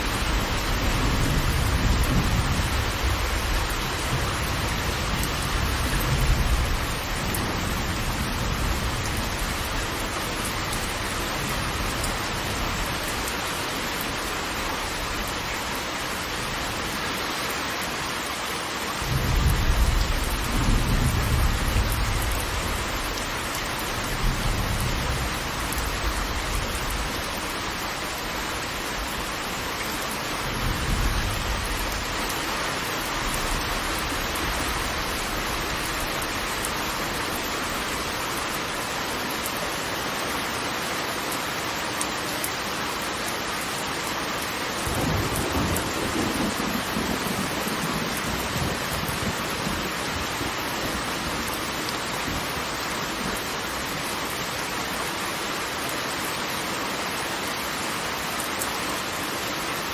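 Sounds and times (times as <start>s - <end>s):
heavy falling water rushing: 0.0s - 59.9s.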